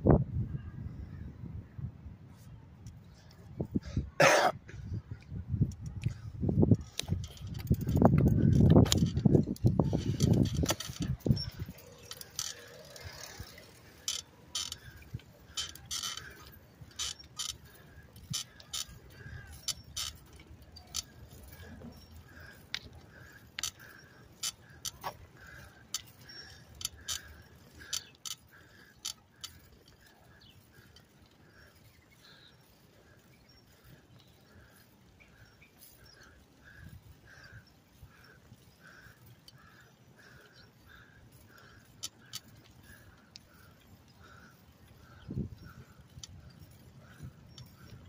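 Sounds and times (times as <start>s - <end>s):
bicycle parts clicking and rattling: 5.2s - 48.0s.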